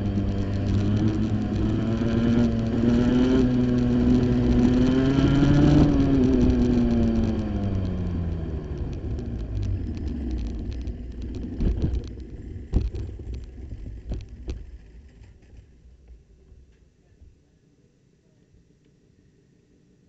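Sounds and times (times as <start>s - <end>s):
kart rolling rumble: 0.0s - 16.1s.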